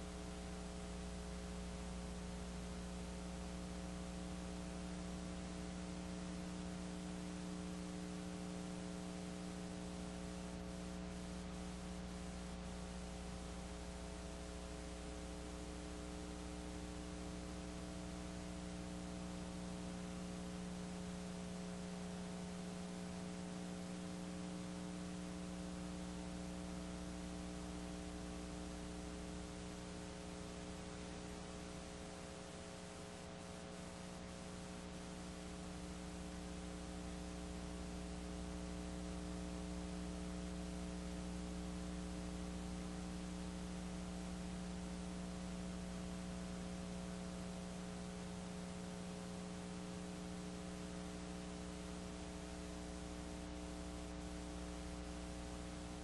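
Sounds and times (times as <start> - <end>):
constant hiss: 0.0 - 56.0
electrical mains hum: 0.0 - 56.0.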